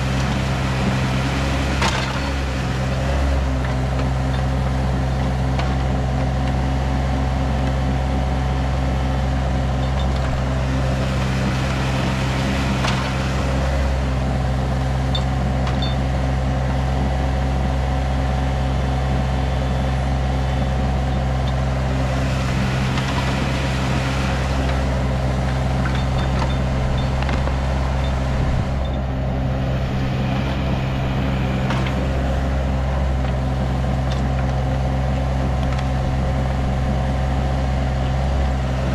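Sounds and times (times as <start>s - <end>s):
small diesel engine running: 0.0s - 38.9s.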